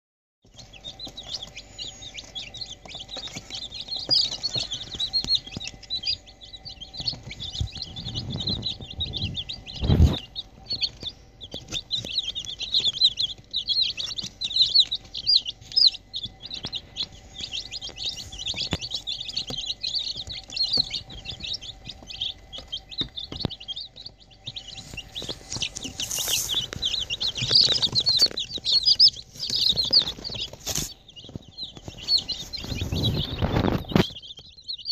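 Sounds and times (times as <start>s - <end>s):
chicks peeping: 0.4s - 34.9s.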